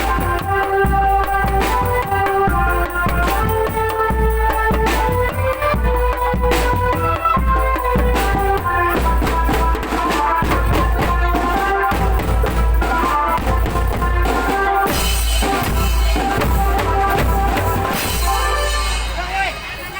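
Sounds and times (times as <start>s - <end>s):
held melody line: 0.0s - 19.9s
rapid snare and bass drum: 0.0s - 19.9s.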